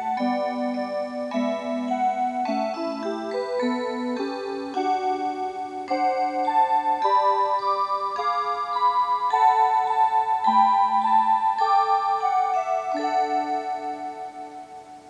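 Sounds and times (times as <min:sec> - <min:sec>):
electronic chime melody: 0:00.0 - 0:15.0.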